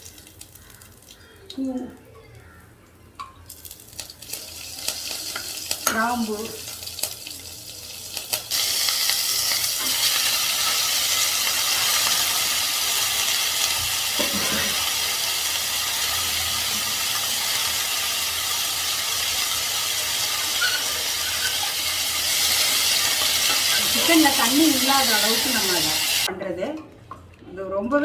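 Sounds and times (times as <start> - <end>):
spices sizzling in hot oil: 3.4 - 26.3.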